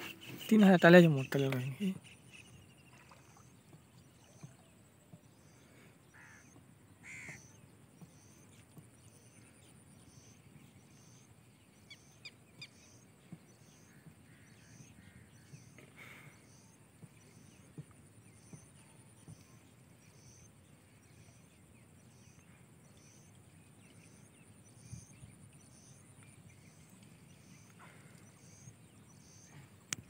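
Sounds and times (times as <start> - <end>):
faint bird calls: 0.0 - 30.0.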